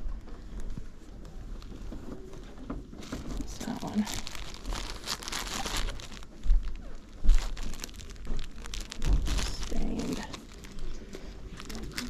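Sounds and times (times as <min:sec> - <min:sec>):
plastic packaging crinkling: 0:00.0 - 0:12.0
rustling of folded linens: 0:00.0 - 0:12.0.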